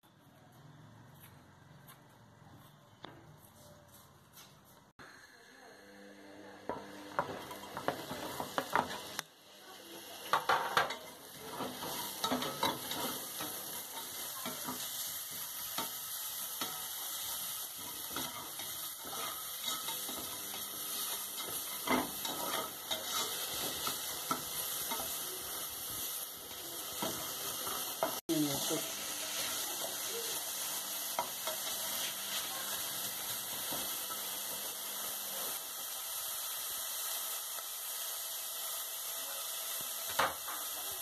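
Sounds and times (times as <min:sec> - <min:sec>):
onions sizzling in a pot: 0:05.6 - 0:41.0.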